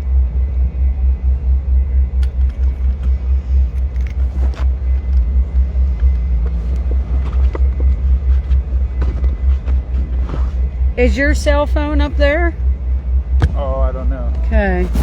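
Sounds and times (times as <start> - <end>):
deep pulsing subwoofer bass: 0.0 - 15.0.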